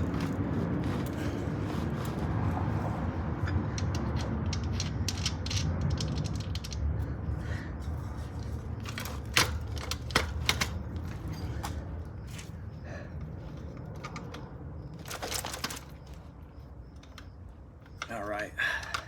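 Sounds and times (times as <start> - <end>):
bicycle chain metallic clicks: 0.0 - 7.6, 8.3 - 12.5, 13.4 - 19.0.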